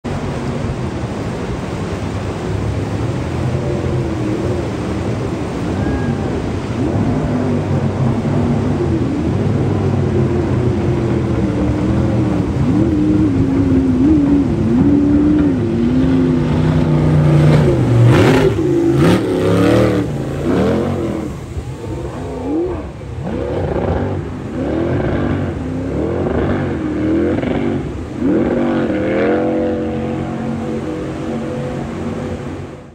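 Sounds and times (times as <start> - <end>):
jet boat engine revving: 0.1 - 32.9.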